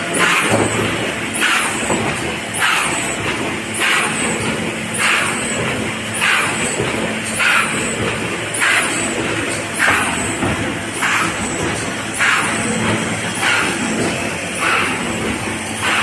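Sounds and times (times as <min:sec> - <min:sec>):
machine running noise: 0:00.0 - 0:16.0.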